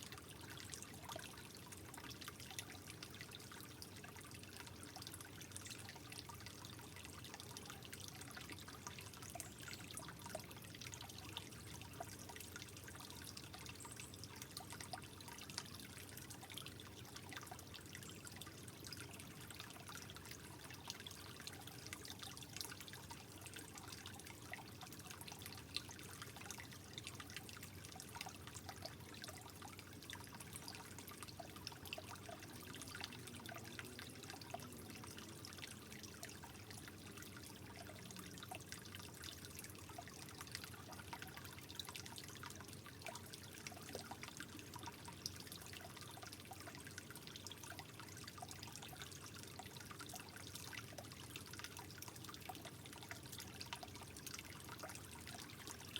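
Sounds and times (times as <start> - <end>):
water drips and splashes: 0.0 - 55.9
water trickling: 0.0 - 55.9.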